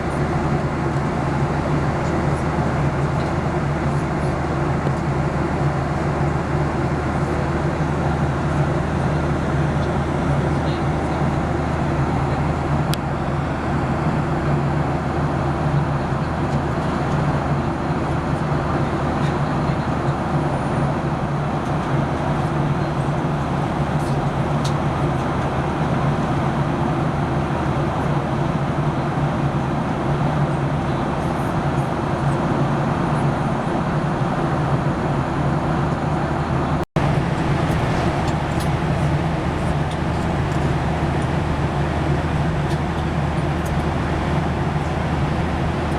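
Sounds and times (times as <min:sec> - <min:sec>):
airplane cabin airflow and engine drone: 0:00.0 - 0:45.9.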